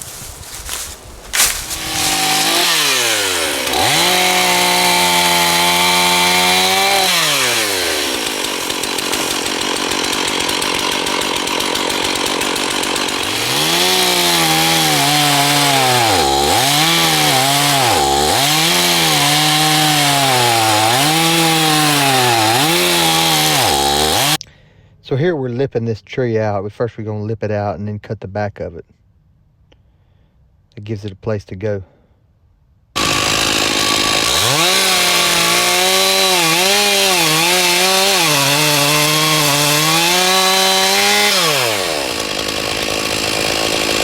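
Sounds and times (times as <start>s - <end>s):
chainsaw revving and cutting wood: 0.0s - 24.4s, 33.0s - 44.0s.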